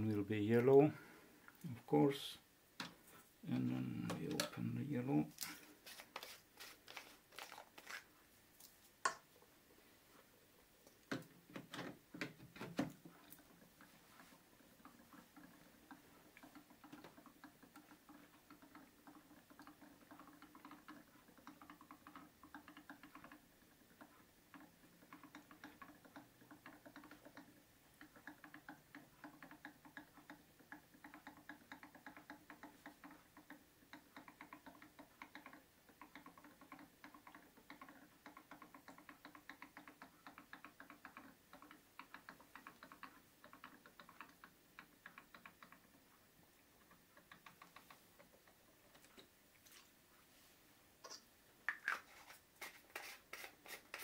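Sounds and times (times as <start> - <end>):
ink bubbling and ticking: 0.0 - 9.4, 10.8 - 50.1, 51.0 - 54.0.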